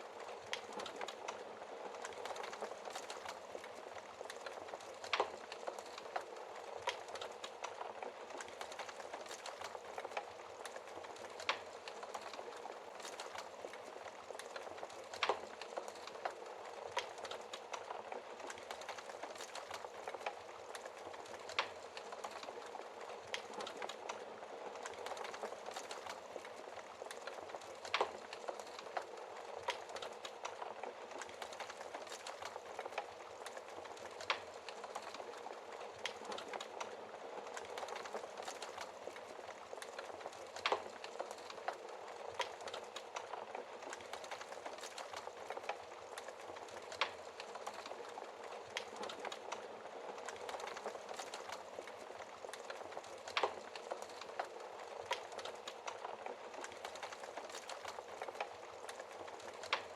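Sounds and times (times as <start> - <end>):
wood fire crackling: 0.0 - 59.9
burning wood popping: 0.2 - 59.9.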